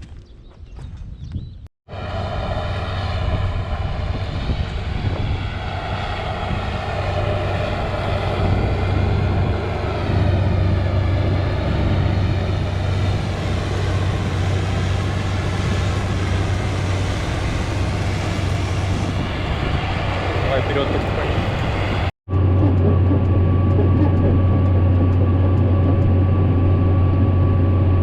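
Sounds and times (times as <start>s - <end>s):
tractor engine running: 1.9s - 28.0s.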